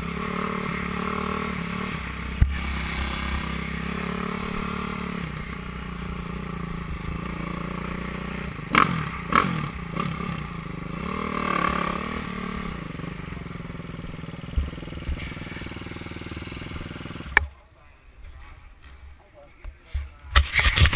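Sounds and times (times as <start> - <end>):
dirt bike engines revving: 0.0 - 17.5, 18.3 - 20.9.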